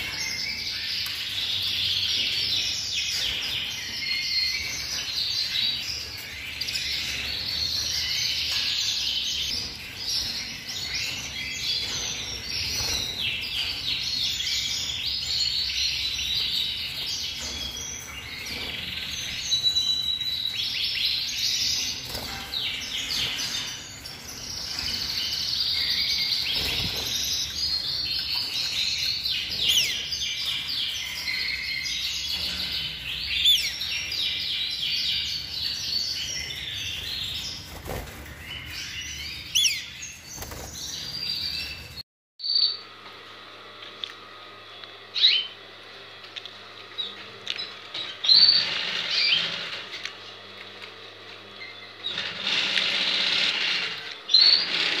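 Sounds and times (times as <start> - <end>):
canaries singing: 0.0 - 43.0, 43.6 - 55.0.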